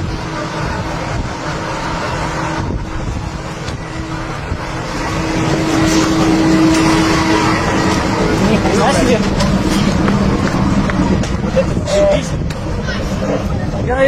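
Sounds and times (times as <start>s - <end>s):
helicopter engine hum: 0.0s - 14.0s
rumbling helicopter rotor: 0.0s - 14.0s
wind noise: 0.0s - 14.0s.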